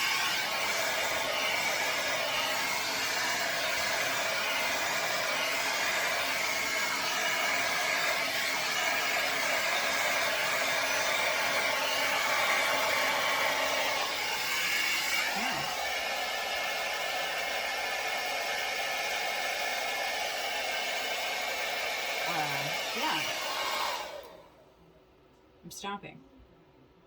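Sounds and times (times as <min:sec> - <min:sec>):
hair dryer blowing: 0:00.0 - 0:24.6.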